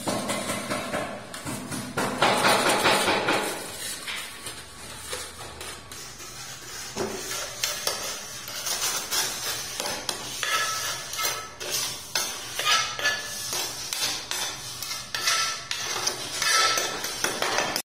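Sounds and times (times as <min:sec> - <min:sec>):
spatula scraping on tile: 0:00.1 - 0:17.8.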